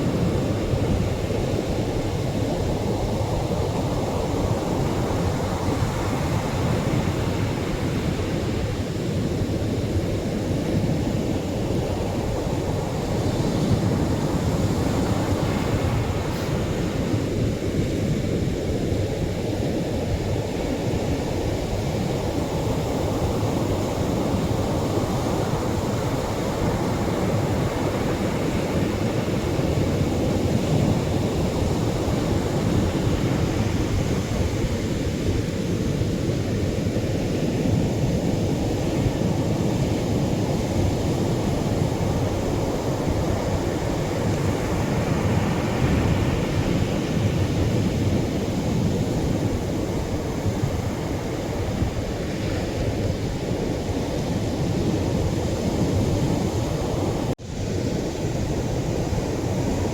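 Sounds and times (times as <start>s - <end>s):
surf washing onto shore: 0.0s - 59.9s.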